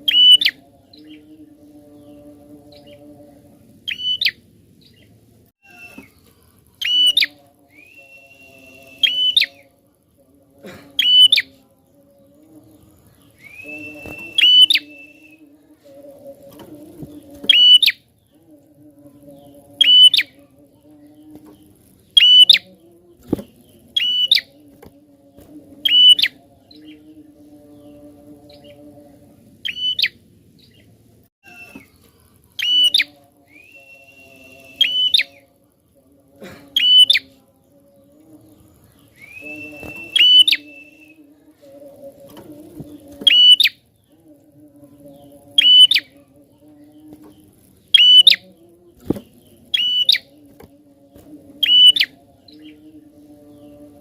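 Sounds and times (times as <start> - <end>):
bird chirping: 0.0 - 10.2, 10.8 - 35.5, 36.7 - 54.0.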